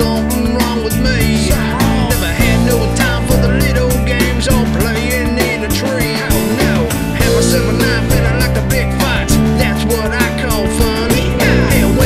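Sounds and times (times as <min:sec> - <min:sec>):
rock song with singing: 0:00.0 - 0:12.0.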